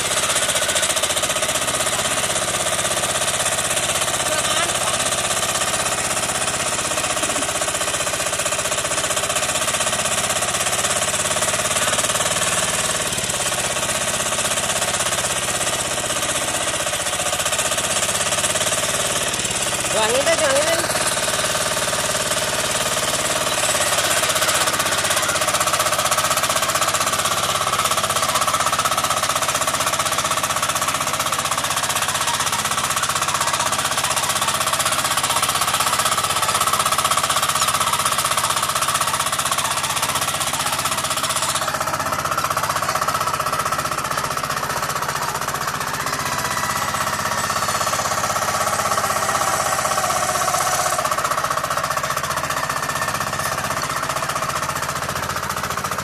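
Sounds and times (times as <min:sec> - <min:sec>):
tiller engine running with knocking: 0:00.0 - 0:56.0.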